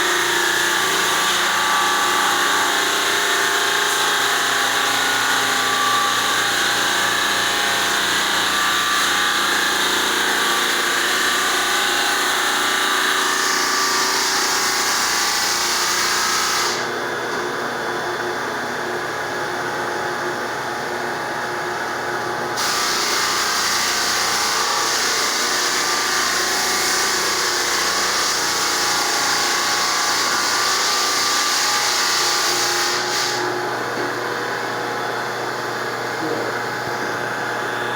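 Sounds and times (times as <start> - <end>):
floor sander motor drone: 0.0 - 37.9.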